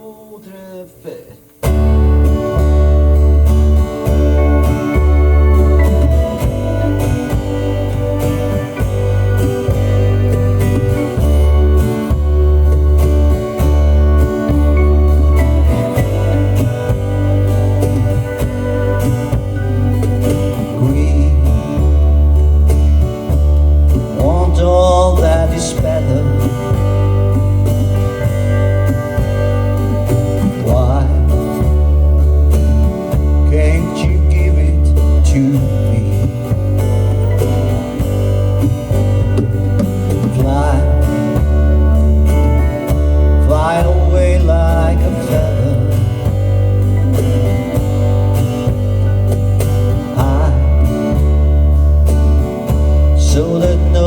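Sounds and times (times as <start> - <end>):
country song with guitar and bass: 0.4 - 54.0.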